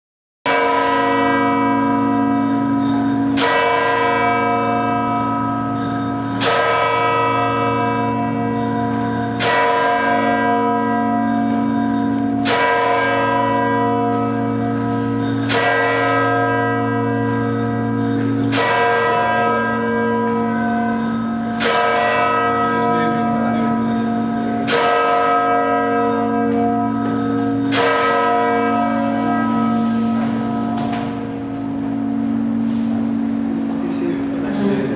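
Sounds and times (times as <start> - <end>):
large church bell tolling: 0.5 - 34.9.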